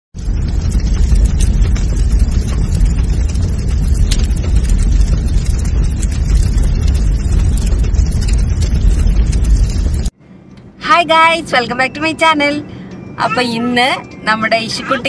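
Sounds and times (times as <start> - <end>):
fire rumbling and crackling: 0.1 - 13.2.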